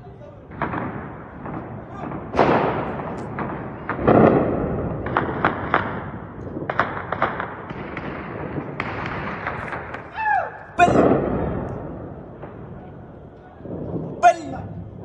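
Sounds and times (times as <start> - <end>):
gunshots with echo: 0.5 - 15.0.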